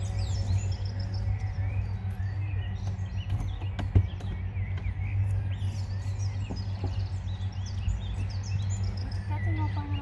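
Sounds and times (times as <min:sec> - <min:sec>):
songbirds chirping: 0:00.0 - 0:10.0
steady low hum: 0:00.0 - 0:10.0.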